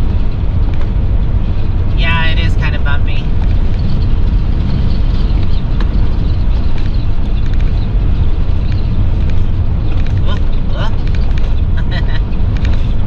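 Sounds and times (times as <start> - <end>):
motorhome rumbling on bumpy road: 0.0 - 13.0
strong wind: 0.0 - 13.0.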